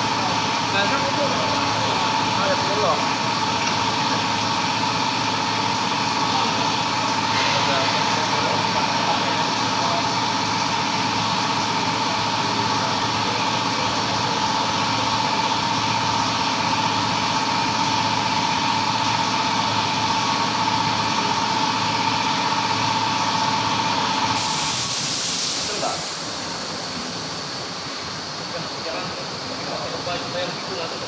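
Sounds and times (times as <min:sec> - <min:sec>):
machine whining and humming: 0:00.0 - 0:31.0.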